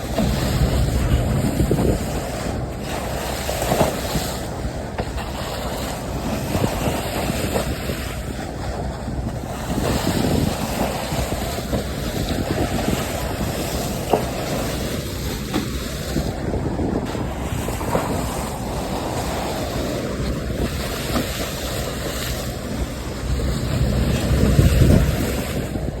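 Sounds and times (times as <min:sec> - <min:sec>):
sea water rushing along ship's bow: 0:00.0 - 0:26.0
wind buffeting microphone: 0:00.0 - 0:26.0.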